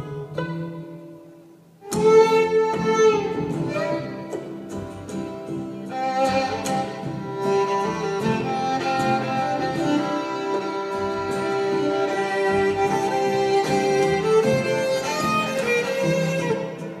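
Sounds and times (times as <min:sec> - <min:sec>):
acoustic guitar: 0:00.0 - 0:17.0
bowed violin long notes: 0:00.0 - 0:17.0.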